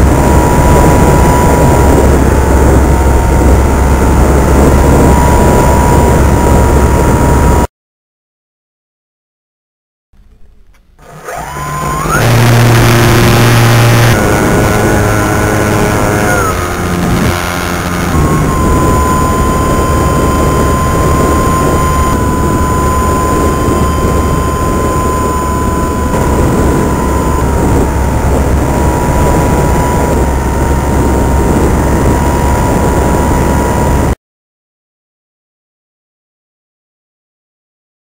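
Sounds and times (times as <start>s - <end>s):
model aircraft motor whine: 0.0s - 7.7s, 11.0s - 34.2s
rushing wind: 0.0s - 7.7s, 11.1s - 34.2s
vibration noise: 0.0s - 7.7s, 10.2s - 34.2s.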